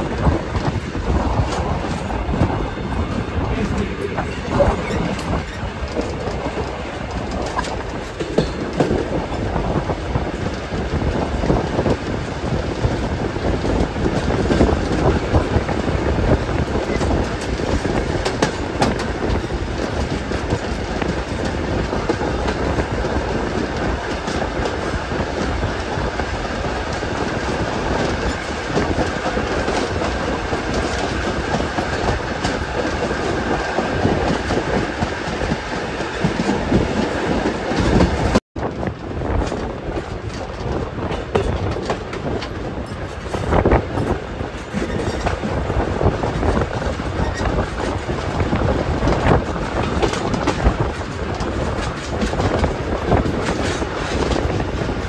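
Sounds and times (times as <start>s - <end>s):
train rumble: 0.0s - 55.0s
train wheels clicking on rails: 0.0s - 55.0s.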